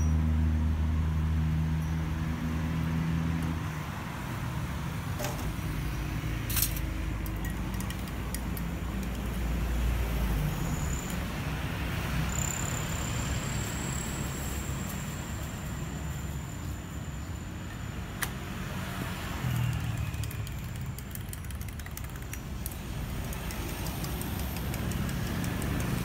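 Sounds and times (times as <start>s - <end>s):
rumble of passing vehicles: 0.0s - 26.0s
vehicle engine hum: 0.0s - 26.0s.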